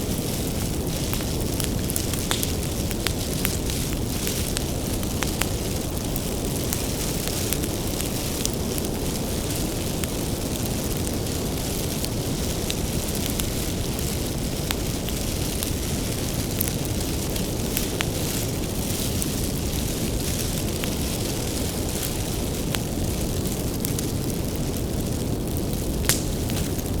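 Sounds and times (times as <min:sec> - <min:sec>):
low rumble of flames: 0:00.0 - 0:27.0
wood crackling and popping: 0:00.0 - 0:27.0.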